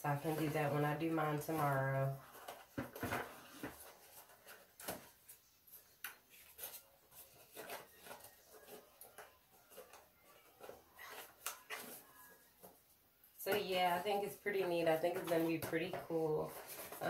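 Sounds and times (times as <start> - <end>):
packaging rustling: 0.1 - 12.8, 15.0 - 17.0.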